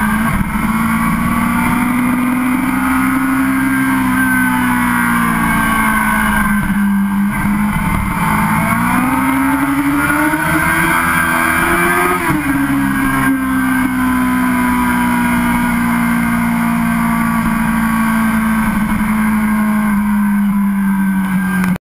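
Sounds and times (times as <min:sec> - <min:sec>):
motorcycle engine revving: 0:00.0 - 0:21.8
road and wind noise: 0:00.0 - 0:21.8.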